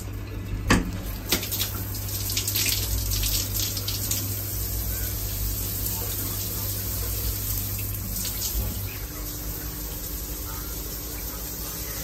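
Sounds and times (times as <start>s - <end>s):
shower spraying water: 1.0s - 12.0s.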